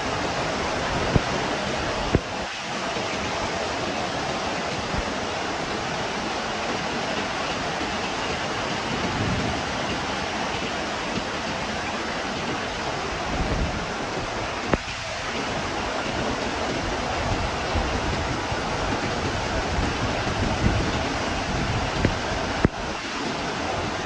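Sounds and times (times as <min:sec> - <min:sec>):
heavy rain: 0:00.0 - 0:24.0
wind gusts on microphone: 0:00.0 - 0:24.0.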